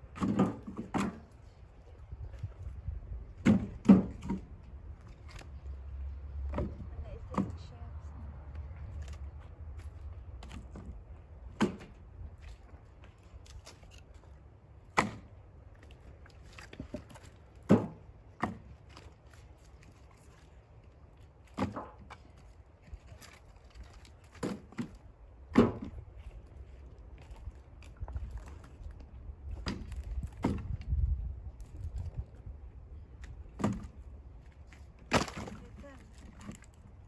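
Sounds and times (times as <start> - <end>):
firewood logs landing: 0.0 - 1.4, 3.3 - 5.6, 6.4 - 7.6, 9.0 - 14.2, 14.8 - 19.9, 21.2 - 26.5, 27.1 - 32.4, 33.2 - 37.0.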